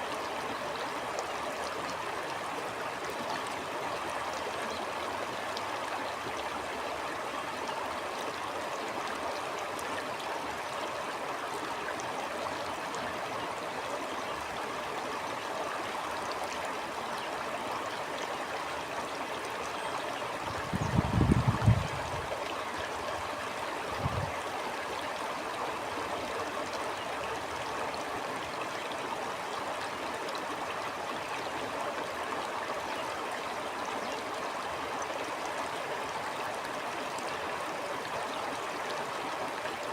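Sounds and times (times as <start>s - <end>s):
stream rushing and gurgling: 0.0s - 39.9s.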